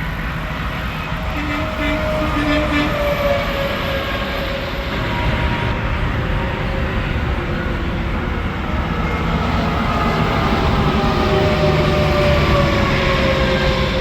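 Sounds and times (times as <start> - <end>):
trucks passing on highway: 0.0 - 14.0.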